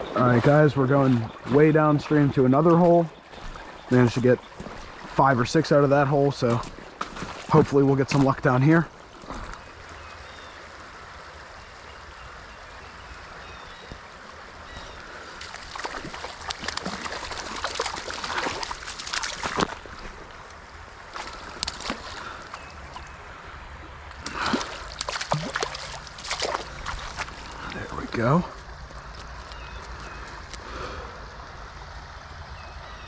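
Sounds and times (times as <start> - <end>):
splashes of wading: 0.0 - 10.6, 12.6 - 32.5
creek water running: 0.0 - 33.0.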